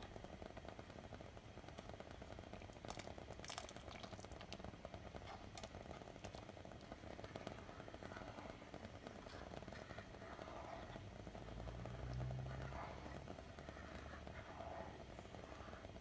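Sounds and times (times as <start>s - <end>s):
milk bubbling in a pot: 0.0s - 16.0s.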